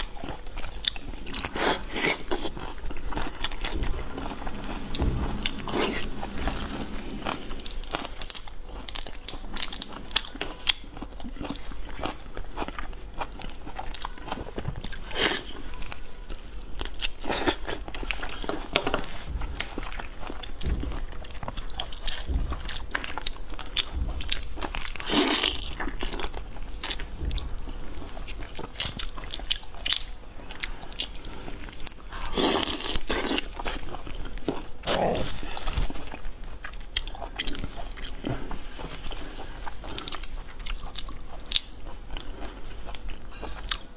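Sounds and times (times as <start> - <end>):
crunching and chewing: 0.0 - 43.9.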